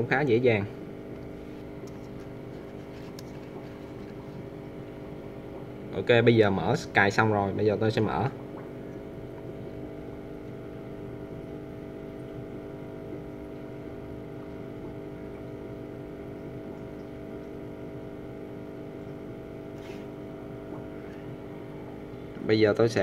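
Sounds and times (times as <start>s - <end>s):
mechanical hum with tones: 0.0s - 23.0s.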